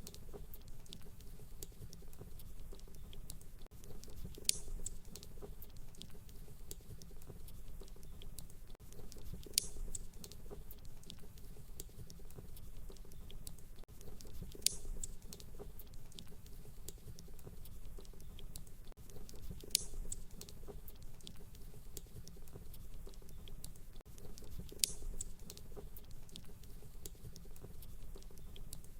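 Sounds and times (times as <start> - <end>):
fireplace fire crackling: 0.0 - 22.2, 23.8 - 28.9.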